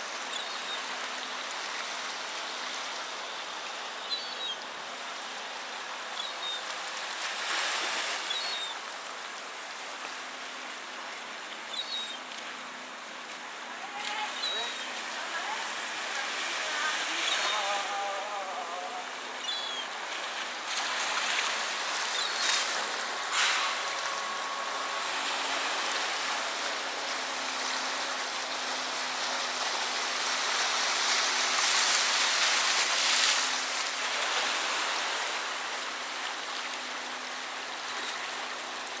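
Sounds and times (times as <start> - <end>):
small waves washing on beach: 0.0 - 39.0.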